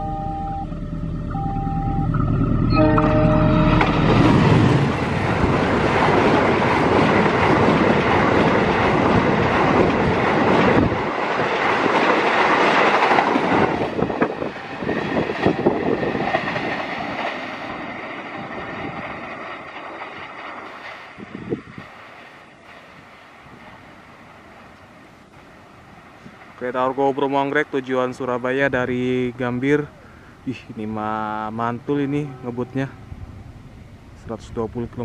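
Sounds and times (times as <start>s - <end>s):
train wheels rushing on rail: 3.1s - 35.0s.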